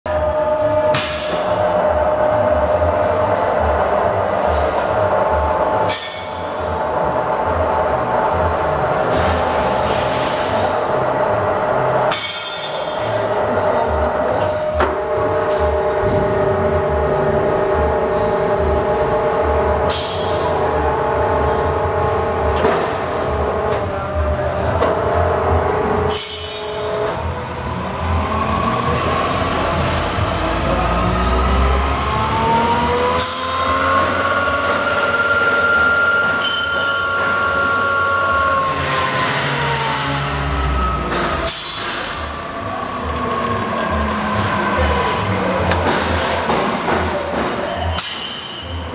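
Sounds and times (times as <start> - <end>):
milling machine whining: 0.1 - 48.0.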